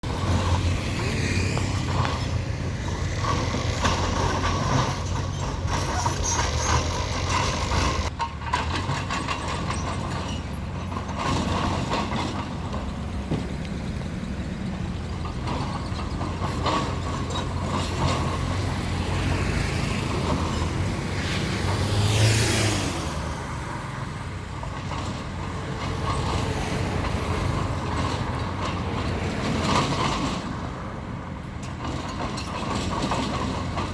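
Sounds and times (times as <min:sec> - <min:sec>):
bulldozer diesel engine: 0:00.0 - 0:33.9
steel tracks clanking: 0:00.0 - 0:33.9.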